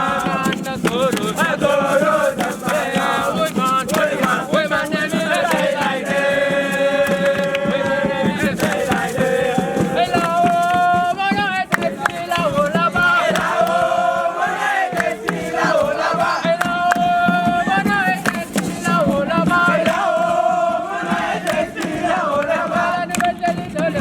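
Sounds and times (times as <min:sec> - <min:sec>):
sharp percussive hits: 0:00.0 - 0:22.0
young voices chanting and singing: 0:00.0 - 0:24.0.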